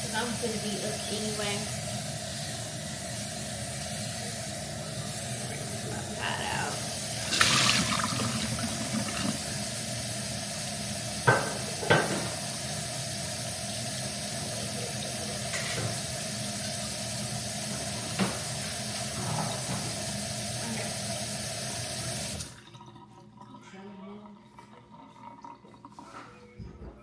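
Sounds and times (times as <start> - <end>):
faucet running into sink: 0.0 - 26.3.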